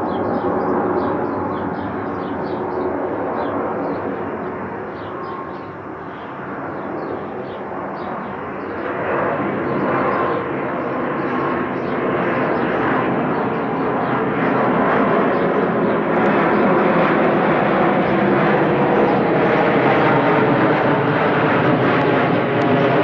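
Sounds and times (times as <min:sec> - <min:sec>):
airliner engines roaring: 0:00.0 - 0:23.0.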